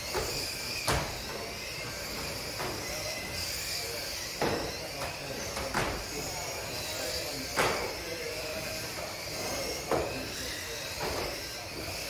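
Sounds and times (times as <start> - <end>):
model race cars whining: 0.0 - 12.0.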